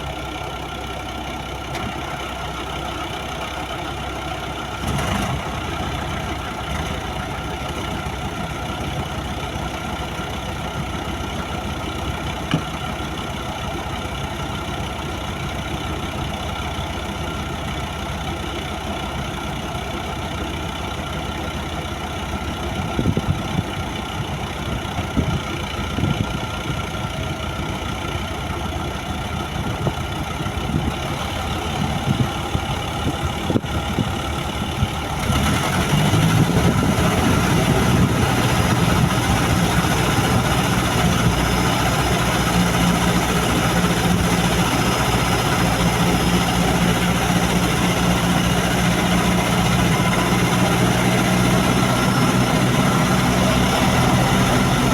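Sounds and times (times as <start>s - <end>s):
diesel engine running at low revs: 0.0s - 54.9s.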